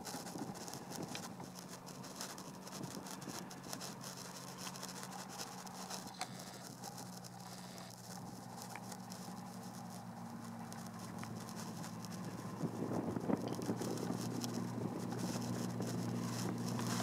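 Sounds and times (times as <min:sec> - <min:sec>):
crackling clicks: 0:00.0 - 0:17.0
propeller plane engine drone: 0:00.0 - 0:17.0.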